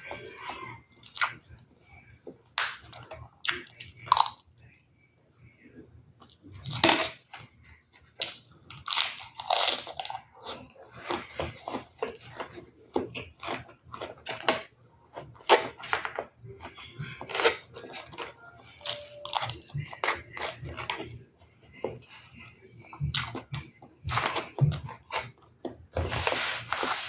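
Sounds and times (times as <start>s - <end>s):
person chewing crunchy food: 0.0s - 4.5s, 6.2s - 27.0s.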